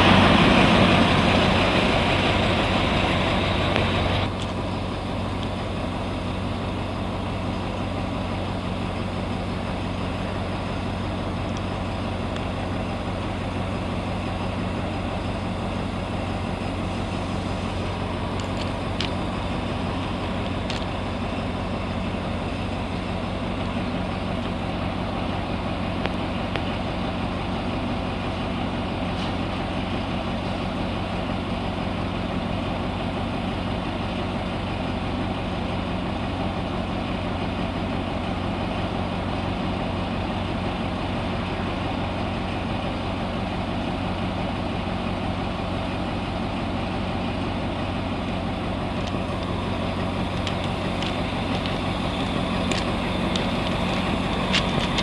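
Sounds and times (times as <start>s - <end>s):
locomotive diesel engine idling: 0.0s - 55.0s.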